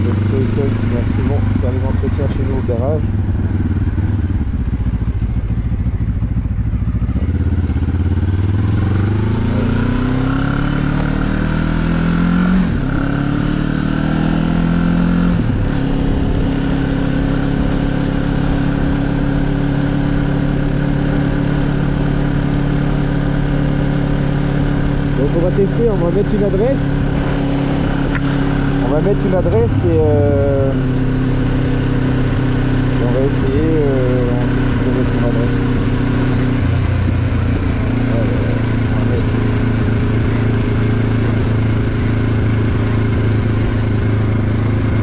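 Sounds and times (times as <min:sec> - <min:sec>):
motorcycle engine accelerating: 0:00.0 - 0:45.0.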